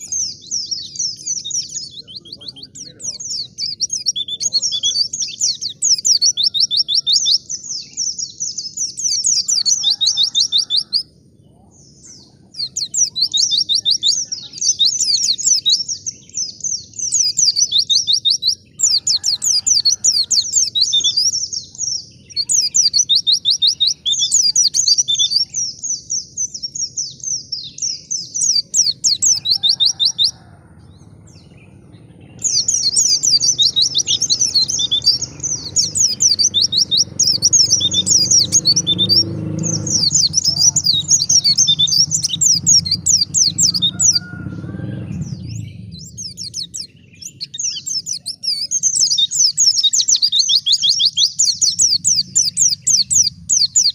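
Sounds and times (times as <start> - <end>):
bird twittering song: 0.0 - 53.9.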